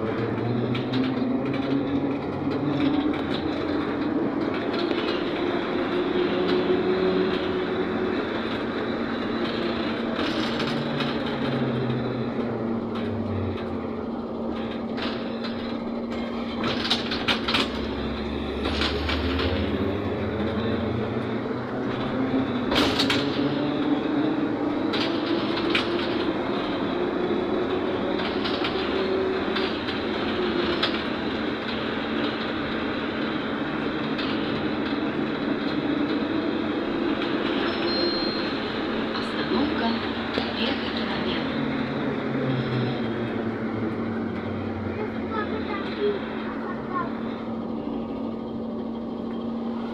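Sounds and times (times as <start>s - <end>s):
steady hum and road noise: 0.0s - 49.9s
traction motor whine: 0.0s - 49.9s.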